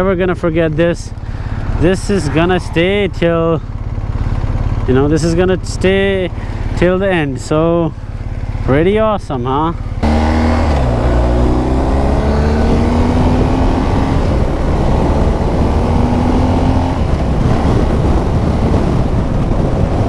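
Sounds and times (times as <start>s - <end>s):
wind and road rush: 0.0s - 20.0s
motorcycle engine accelerating: 0.7s - 7.0s, 9.8s - 20.0s.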